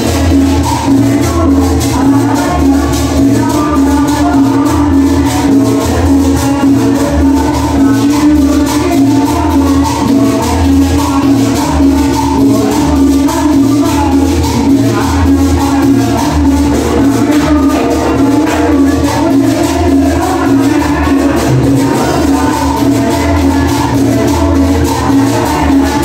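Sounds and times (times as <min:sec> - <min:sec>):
latin dance music: 0:00.0 - 0:26.0.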